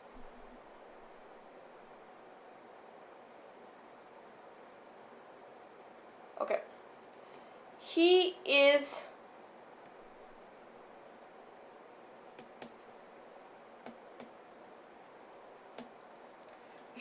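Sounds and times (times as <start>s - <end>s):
low room tone hiss: 0.0s - 17.0s.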